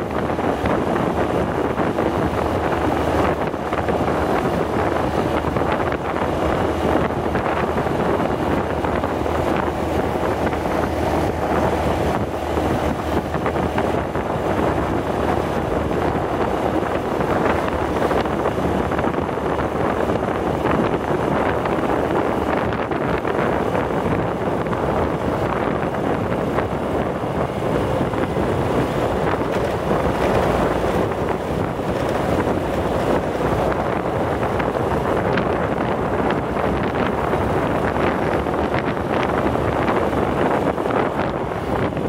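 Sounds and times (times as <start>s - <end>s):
motorbike running and road noise: 0.0s - 42.0s
wind rushing over microphone: 0.0s - 42.0s.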